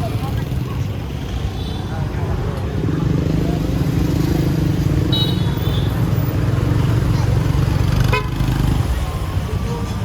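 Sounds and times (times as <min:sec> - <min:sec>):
voices: 0:00.0 - 0:10.0.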